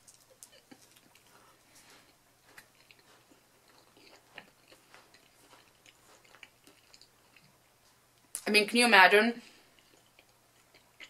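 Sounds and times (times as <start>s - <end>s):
soft chewing: 0.0s - 8.4s, 9.5s - 11.0s.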